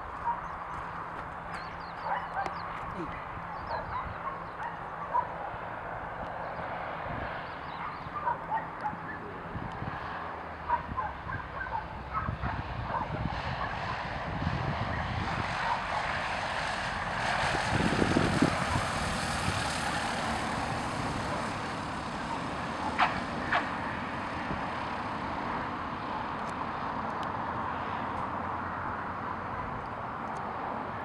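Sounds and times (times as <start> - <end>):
light plane engine and propeller: 0.0 - 31.0.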